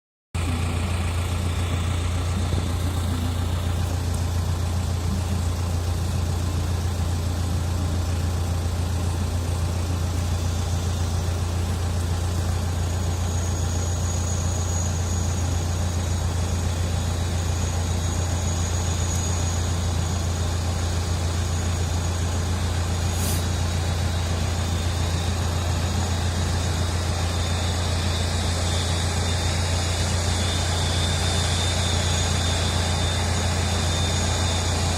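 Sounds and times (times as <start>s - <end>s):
faint high whine: 0.4s - 34.9s
low engine hum: 0.4s - 34.9s.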